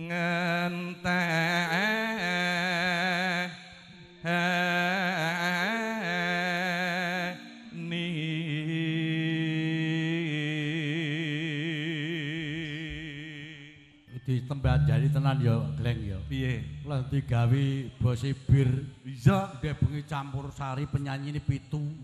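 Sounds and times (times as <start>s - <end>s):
person singing with vibrato: 0.0s - 18.8s.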